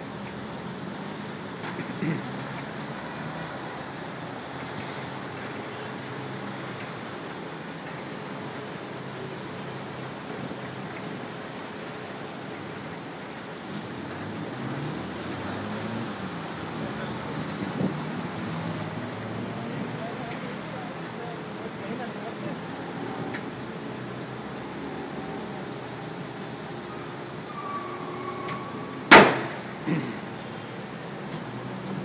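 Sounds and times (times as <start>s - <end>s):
street traffic noise: 0.0s - 32.0s.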